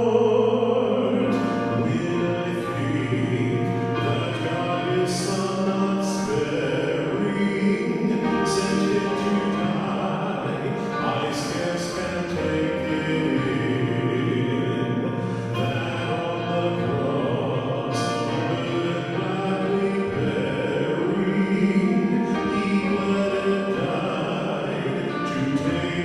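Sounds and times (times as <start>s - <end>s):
choir singing church music: 0.0s - 26.0s.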